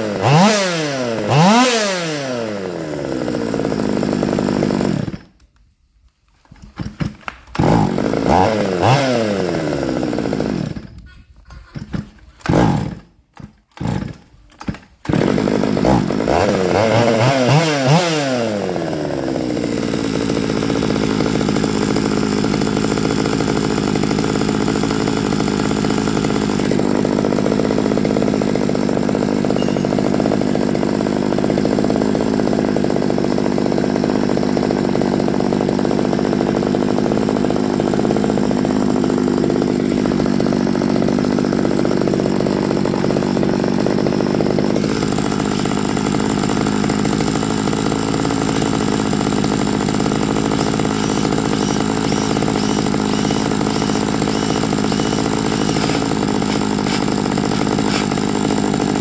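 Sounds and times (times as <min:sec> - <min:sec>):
chainsaw engine running: 0:00.0 - 0:05.4, 0:06.5 - 0:59.0.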